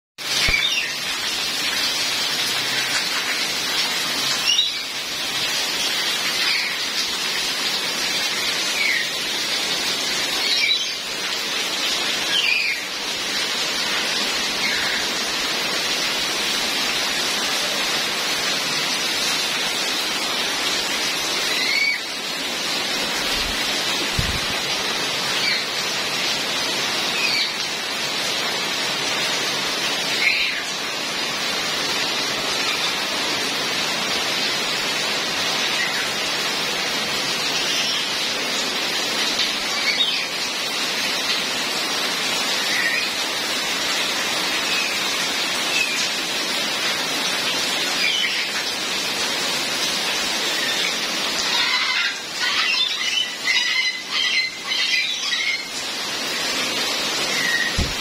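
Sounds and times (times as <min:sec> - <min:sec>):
steady rain falling: 0:00.2 - 0:58.0.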